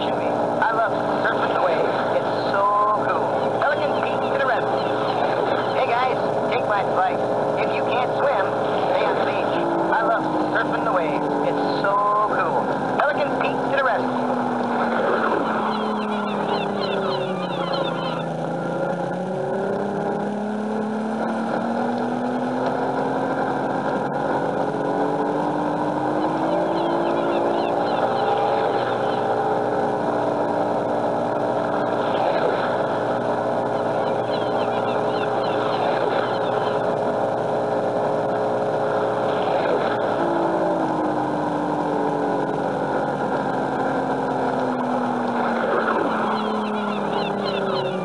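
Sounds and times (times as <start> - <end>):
recorded motorboat engine: 0.0 - 48.0.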